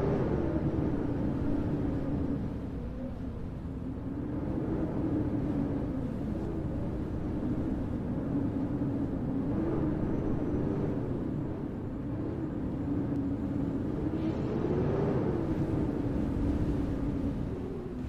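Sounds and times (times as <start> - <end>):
wind rumble: 0.0 - 18.0.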